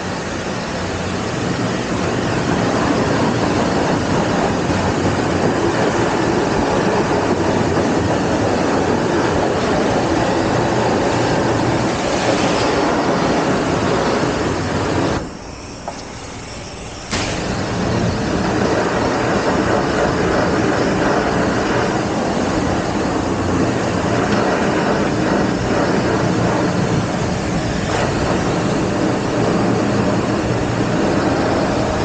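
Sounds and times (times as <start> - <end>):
pressure washer spraying water: 0.0 - 32.0.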